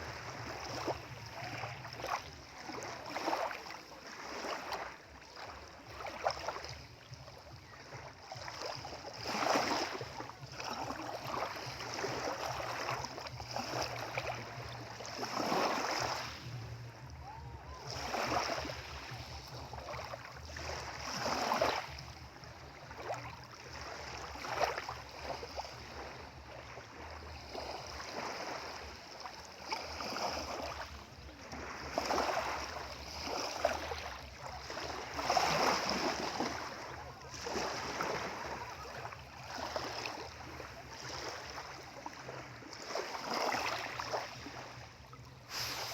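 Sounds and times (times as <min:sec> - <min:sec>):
waves washing and splashing: 0:00.0 - 0:45.9.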